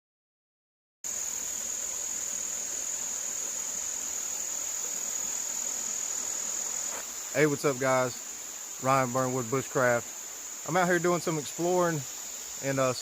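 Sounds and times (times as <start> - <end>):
insect high-pitched trill: 1.1 - 13.0.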